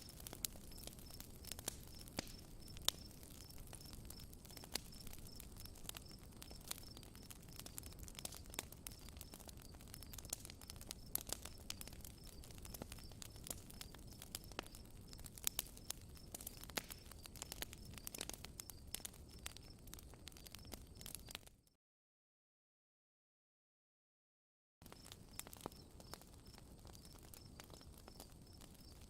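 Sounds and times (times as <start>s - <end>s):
campfire crackling: 0.0s - 21.6s, 24.8s - 29.0s.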